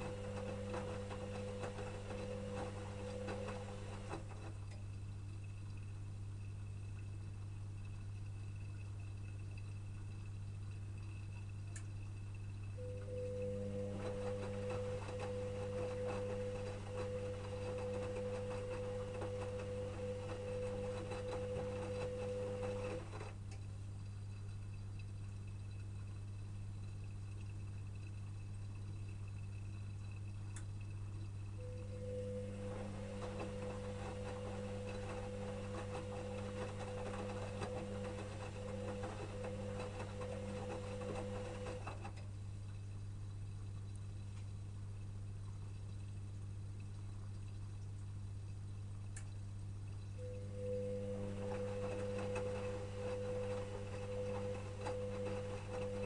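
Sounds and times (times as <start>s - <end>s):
washing machine whine and hum: 0.0s - 56.0s.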